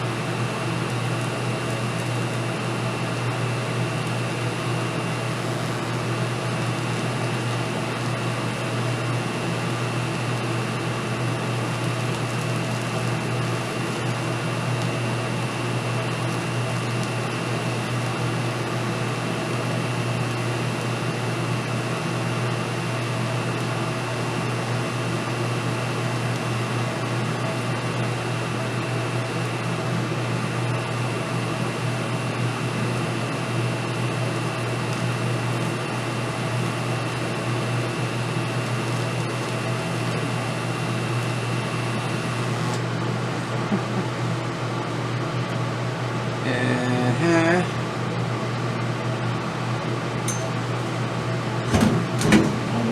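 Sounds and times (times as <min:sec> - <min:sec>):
machine hum with whir: 0:00.0 - 0:52.9.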